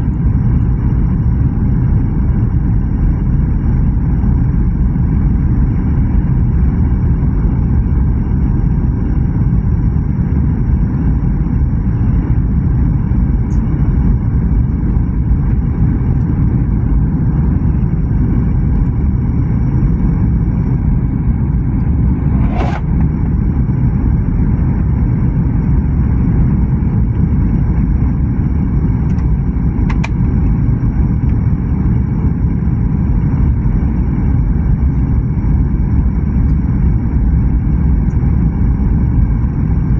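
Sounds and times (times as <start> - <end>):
jet airliner cabin noise: 0.0 - 39.9.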